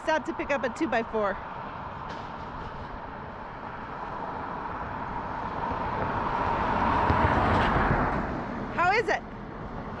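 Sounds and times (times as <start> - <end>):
vehicle driving past: 1.4 - 10.0.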